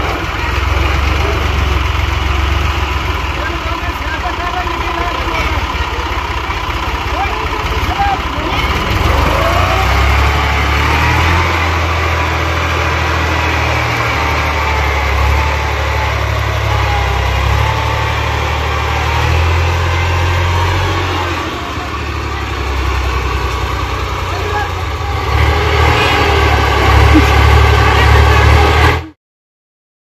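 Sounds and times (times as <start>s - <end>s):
tractor diesel engine under load: 0.0s - 29.2s.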